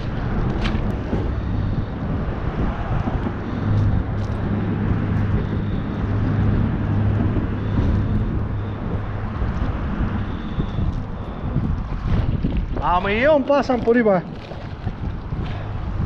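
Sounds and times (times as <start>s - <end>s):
passing traffic engine hum: 0.0s - 16.0s.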